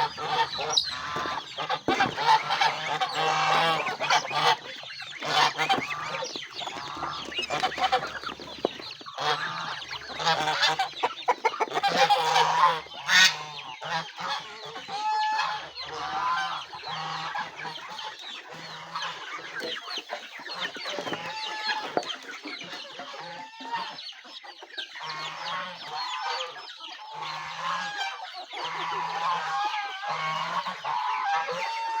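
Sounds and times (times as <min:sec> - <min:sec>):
geese honking: 0:00.0 - 0:22.0, 0:25.0 - 0:32.0
chickens clucking: 0:00.0 - 0:32.0.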